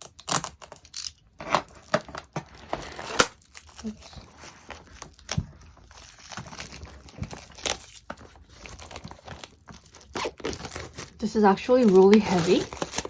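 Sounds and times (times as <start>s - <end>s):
wrapper rustling and crinkling: 0.0s - 13.0s.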